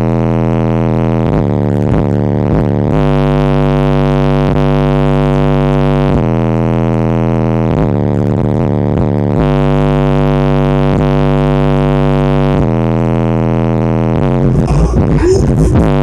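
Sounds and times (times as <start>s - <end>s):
subwoofer playing bass-heavy song: 0.0s - 16.0s.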